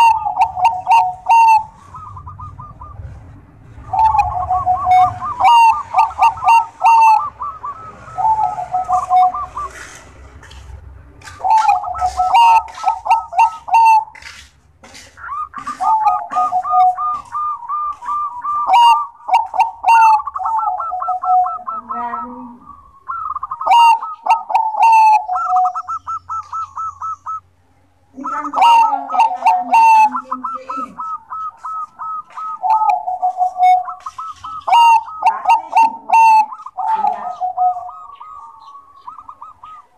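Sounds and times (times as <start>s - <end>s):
dove cooing: 0.0s - 27.5s, 28.1s - 39.9s.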